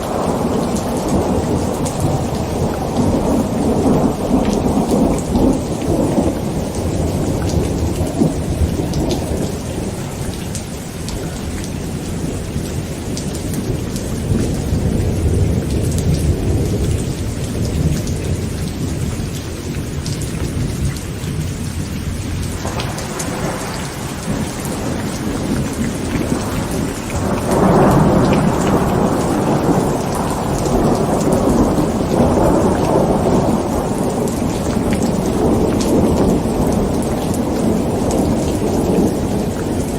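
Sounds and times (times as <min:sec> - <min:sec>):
heavy rain on a tent: 0:00.0 - 0:39.9
rolling thunder: 0:00.0 - 0:39.9.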